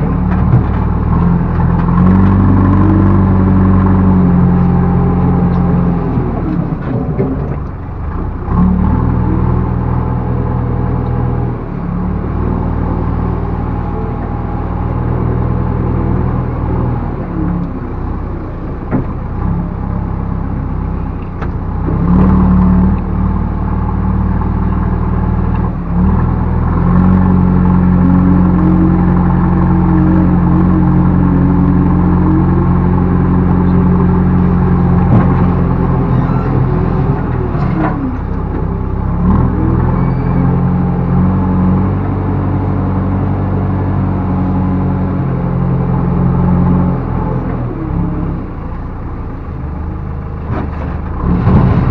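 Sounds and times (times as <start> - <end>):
backhoe diesel engine running: 0.0 - 51.9.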